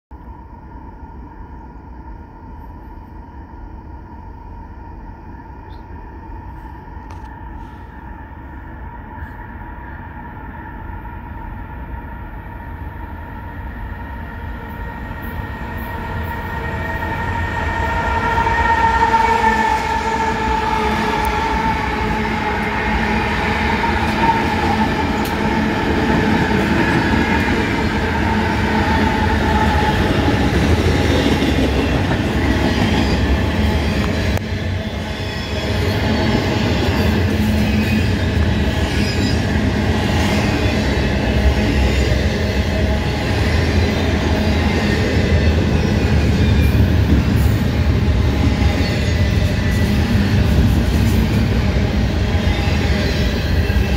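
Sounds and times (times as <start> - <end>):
diesel locomotives passing: 0.2 - 53.9
locomotive whine: 0.2 - 53.9.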